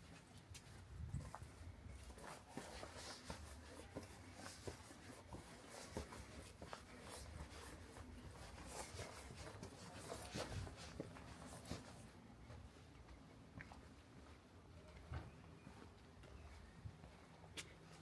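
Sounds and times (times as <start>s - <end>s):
footsteps on street: 0.0s - 18.0s.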